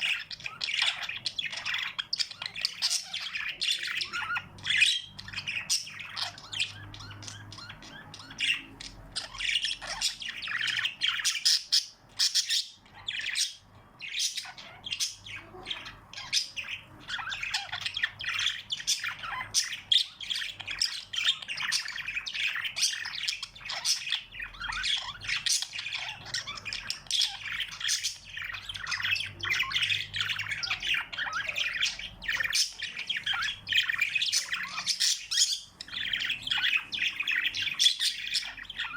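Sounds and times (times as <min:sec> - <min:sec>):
small birds chirping and squawking: 0:00.0 - 0:38.9.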